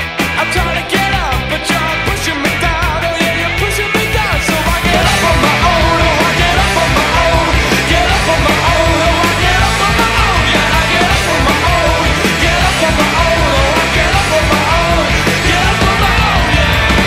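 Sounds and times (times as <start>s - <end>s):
loud rock song with vocals: 0.0s - 17.0s.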